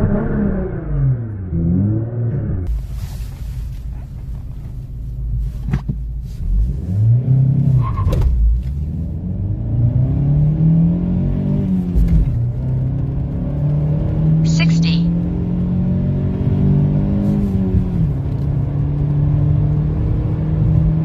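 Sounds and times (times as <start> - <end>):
car engine revving: 0.0 - 2.8, 6.4 - 21.0.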